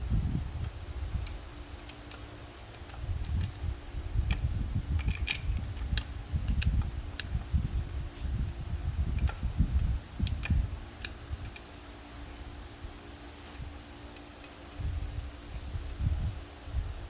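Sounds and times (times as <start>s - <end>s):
faint steady hum: 0.0s - 17.0s
low rumbling handling noise: 0.0s - 17.0s.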